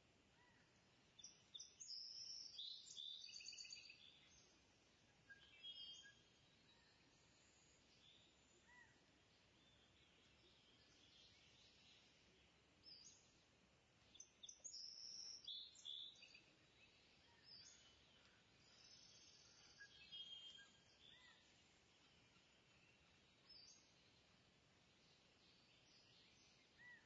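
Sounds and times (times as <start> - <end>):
faint bird chirps: 0.3 - 13.4, 14.0 - 27.0.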